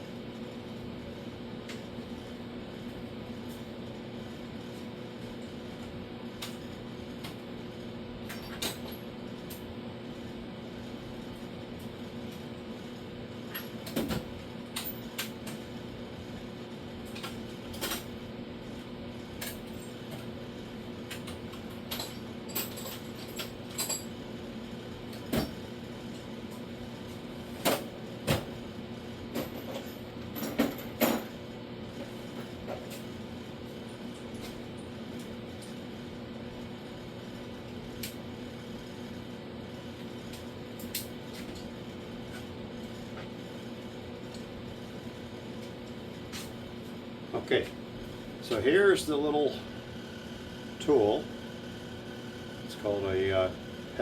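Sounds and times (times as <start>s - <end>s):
electrical hum with tones: 0.0s - 54.0s.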